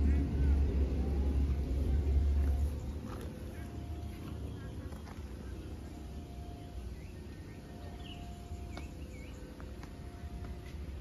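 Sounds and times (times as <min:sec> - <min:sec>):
bird chirps: 0:00.0 - 0:10.8
low steady rumble: 0:00.0 - 0:11.0.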